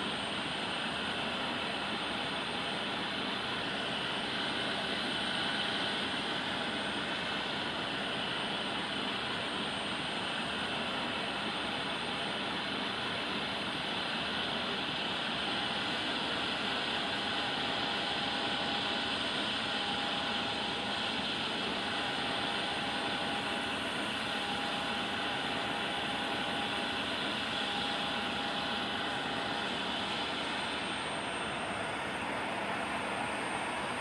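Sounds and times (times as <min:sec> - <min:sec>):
faint engine whine: 0:00.0 - 0:34.0
jet engines idling: 0:00.0 - 0:34.0.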